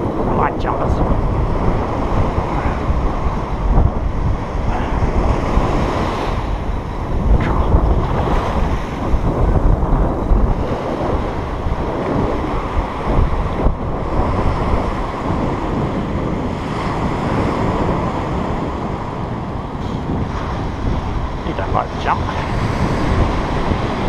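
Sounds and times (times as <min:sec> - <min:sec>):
surf breaking on a beach: 0:00.0 - 0:24.0
wind buffeting the microphone: 0:00.0 - 0:24.0.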